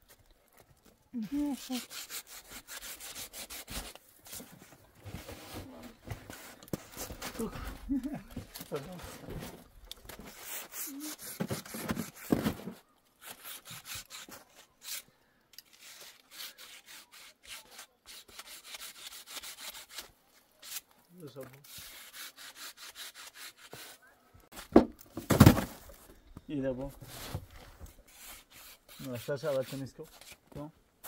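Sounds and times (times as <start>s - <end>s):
scraping strokes: 1.4s - 7.8s, 8.6s - 24.7s, 27.0s - 30.4s.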